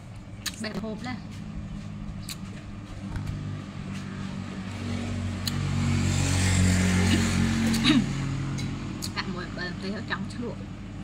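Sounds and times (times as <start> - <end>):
vehicle engine passing by: 1.2 - 10.3.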